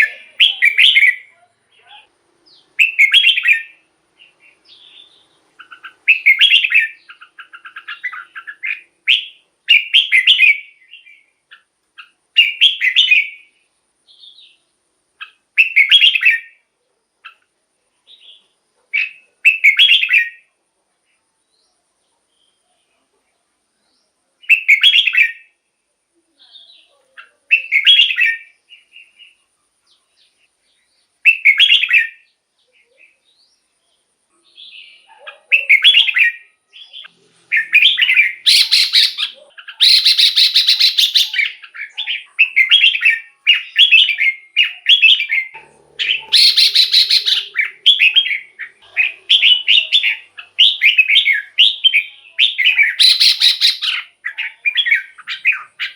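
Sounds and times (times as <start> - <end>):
bulbul singing chirpy phrases: 0.0 - 16.7, 24.3 - 30.5, 31.1 - 55.9.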